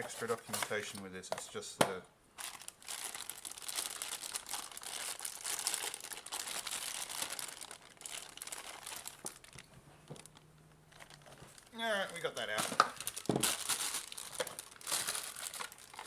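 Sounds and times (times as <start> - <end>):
packaging crinkling and rustling: 0.0 - 1.1, 2.4 - 16.0.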